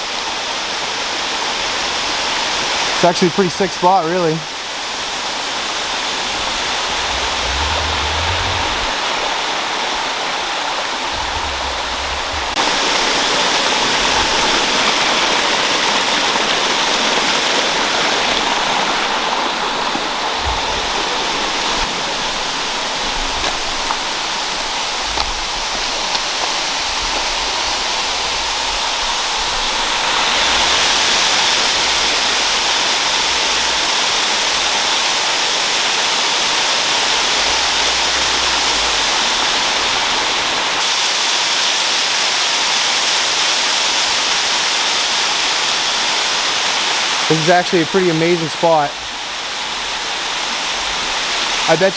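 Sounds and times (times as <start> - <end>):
waterfall pouring: 2.1 - 51.9.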